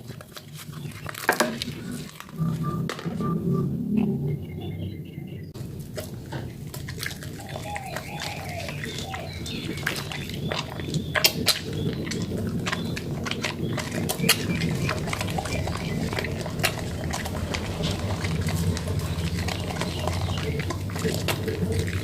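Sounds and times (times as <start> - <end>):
wet soap squishing: 0.0 - 3.2, 5.6 - 22.0.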